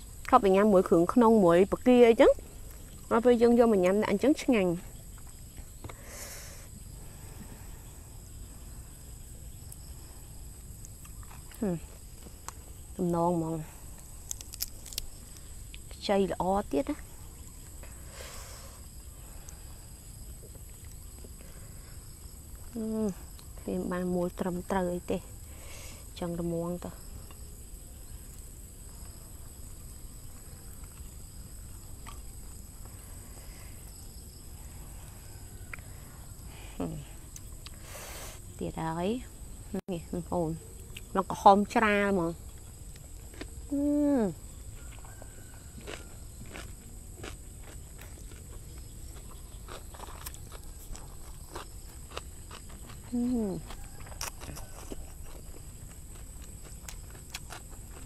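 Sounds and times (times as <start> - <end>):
high-pitched insect hum: 0.0 - 58.0
faint ticks of food handling: 0.1 - 39.6, 40.3 - 58.0.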